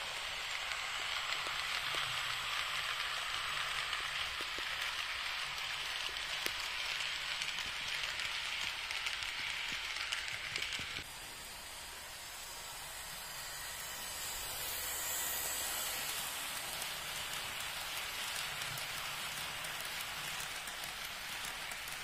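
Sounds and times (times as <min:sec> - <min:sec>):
model wagons rolling on track: 0:00.0 - 0:22.0.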